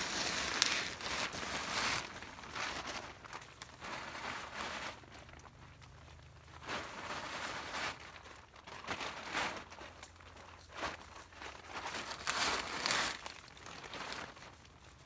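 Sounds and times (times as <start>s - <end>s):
plastic tarp crinkling: 0.0s - 15.0s.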